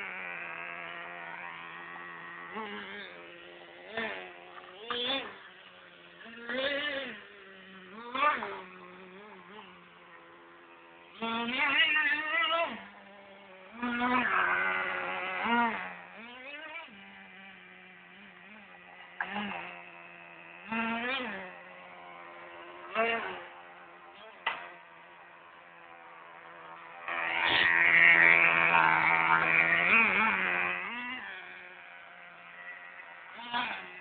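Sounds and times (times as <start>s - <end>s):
toy truck motor buzzing: 0.0s - 34.0s.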